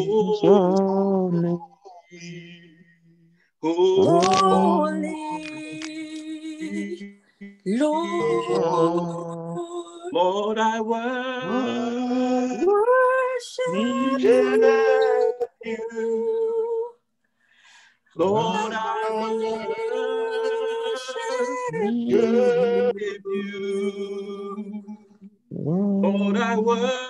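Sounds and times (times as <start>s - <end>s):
man singing unaccompanied: 0.0s - 16.8s, 18.2s - 27.0s.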